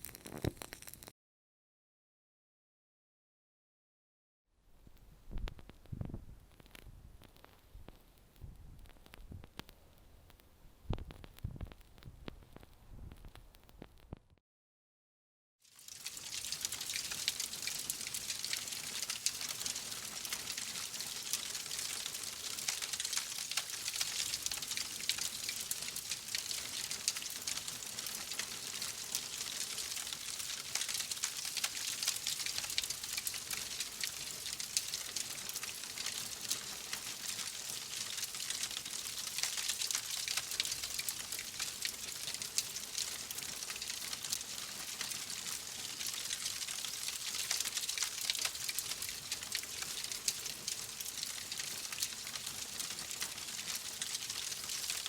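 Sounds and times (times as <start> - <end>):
fire crackling: 0.0 - 1.1, 4.9 - 14.2, 15.8 - 55.0.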